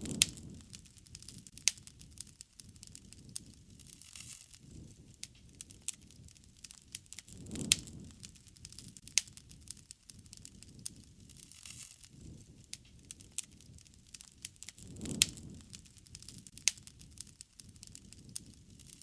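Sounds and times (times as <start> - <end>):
campfire crackling and popping: 0.0 - 19.0
flames rushing: 0.0 - 19.0.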